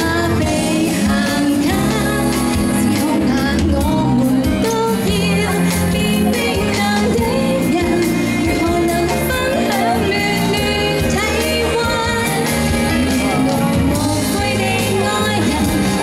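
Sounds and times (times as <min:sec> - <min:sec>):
instrumental accompaniment with beat: 0:00.0 - 0:16.0
woman singing pop song: 0:00.0 - 0:16.0.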